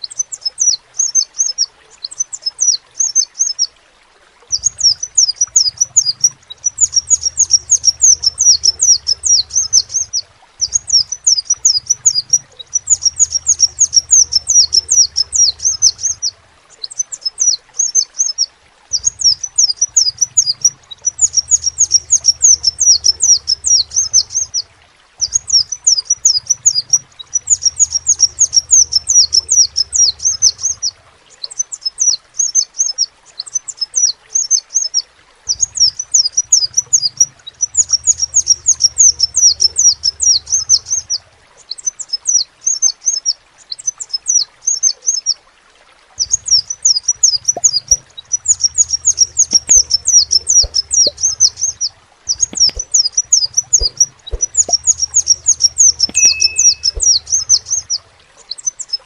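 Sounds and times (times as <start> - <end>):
bird chirping: 4.5 - 24.6, 25.2 - 45.2, 46.2 - 59.0.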